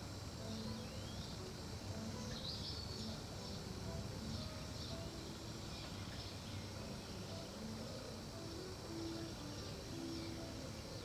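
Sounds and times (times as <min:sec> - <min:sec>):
low outdoor hum: 0:00.0 - 0:11.0
small birds chirping: 0:00.0 - 0:11.0.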